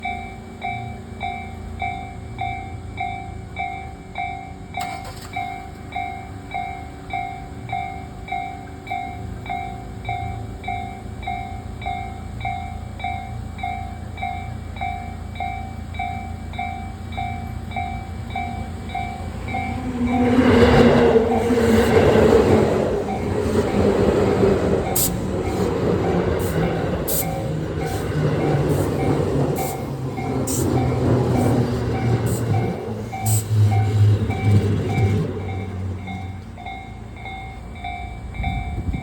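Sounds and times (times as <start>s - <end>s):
electric train arriving: 0.0s - 39.0s
level crossing warning bell: 0.0s - 39.0s.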